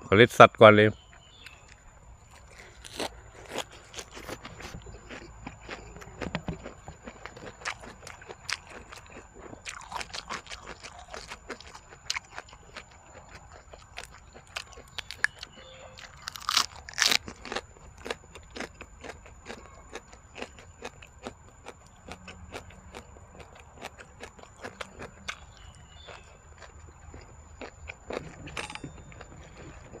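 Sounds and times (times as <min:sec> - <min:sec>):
chewing and crunching: 0:01.0 - 0:30.0
leaf crunching bite: 0:01.4 - 0:26.3.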